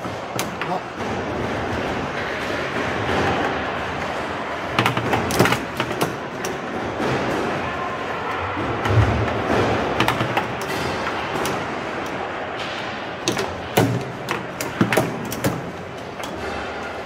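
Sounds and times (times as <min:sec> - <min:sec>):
foosball ball clacks: 0:00.0 - 0:07.6, 0:08.6 - 0:12.2, 0:13.1 - 0:16.9
background noise: 0:00.0 - 0:17.0.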